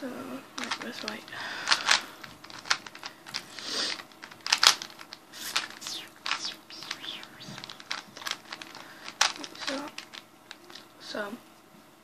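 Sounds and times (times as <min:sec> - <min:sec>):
puzzle cube clicking as twisted: 0:00.6 - 0:10.8.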